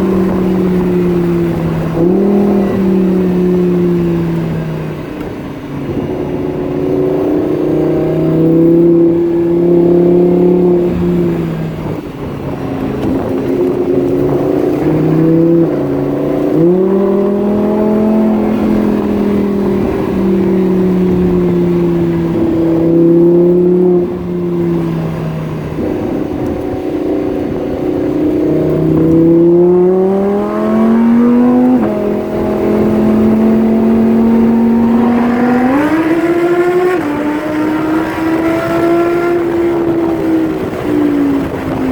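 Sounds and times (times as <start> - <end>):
sports car engine accelerating: 0.0 - 41.9.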